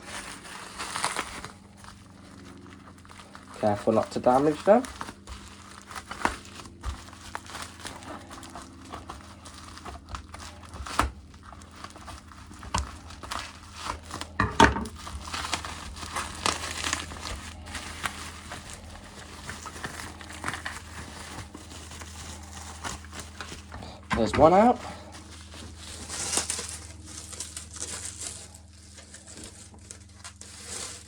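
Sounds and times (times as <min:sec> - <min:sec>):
packaging crinkling and rustling: 0:00.0 - 0:31.0.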